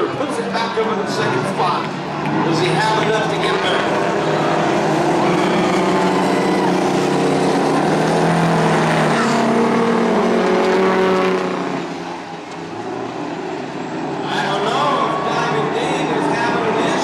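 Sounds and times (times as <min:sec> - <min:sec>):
racing truck engines roaring past: 0:00.0 - 0:17.0.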